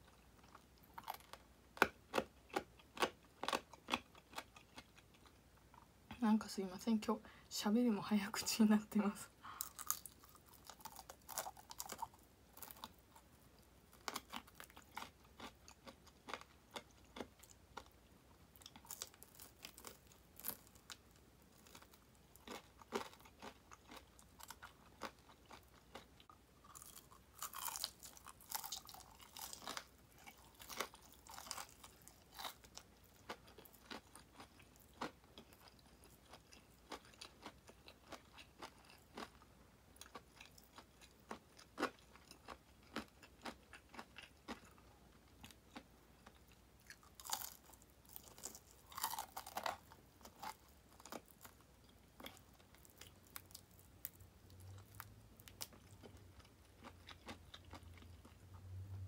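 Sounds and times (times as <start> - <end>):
chewing crispy fried chicken: 0.0 - 5.9, 9.4 - 58.8.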